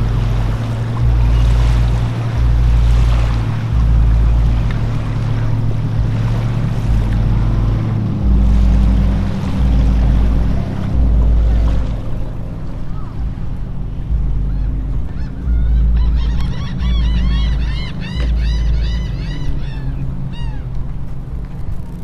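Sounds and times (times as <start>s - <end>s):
steady low hum: 0.0s - 22.0s
wind buffeting microphone: 0.0s - 22.0s.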